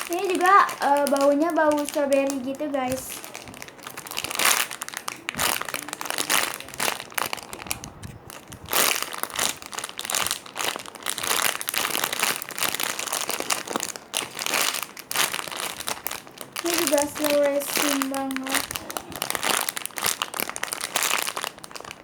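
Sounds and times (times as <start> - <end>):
squishy toy crinkling and rustling: 0.0 - 22.0.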